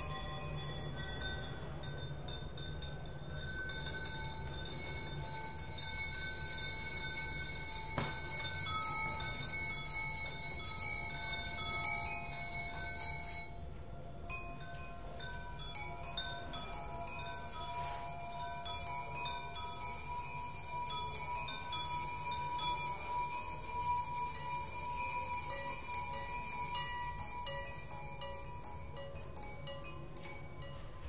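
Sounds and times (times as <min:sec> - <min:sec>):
singing bowls ringing: 0:00.0 - 0:31.0.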